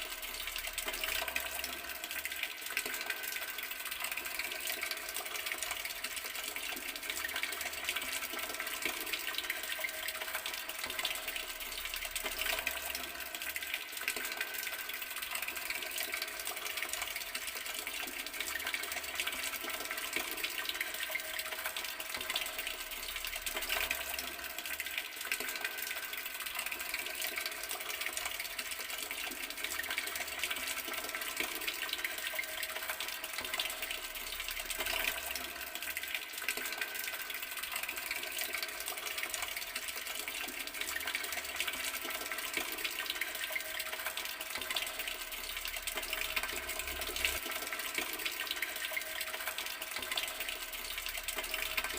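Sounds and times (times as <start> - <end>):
water tap running: 0.0 - 51.9.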